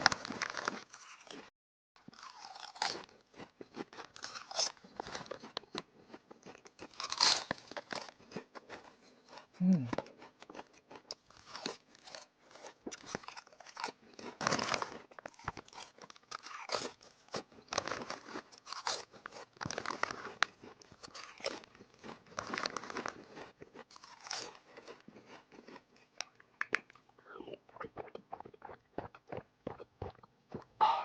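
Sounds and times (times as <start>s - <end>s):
potato chips crunching: 0.0s - 27.0s.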